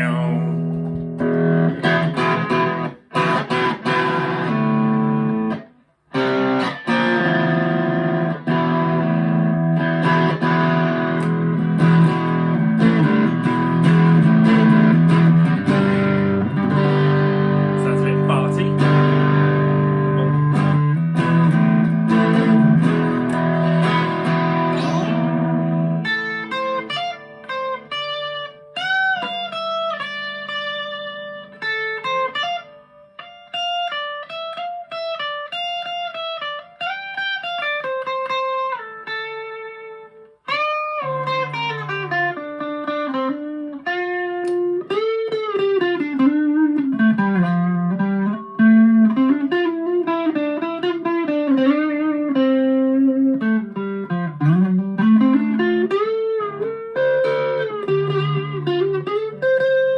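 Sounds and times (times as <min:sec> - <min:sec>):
electric guitar playing: 0:00.0 - 0:59.9.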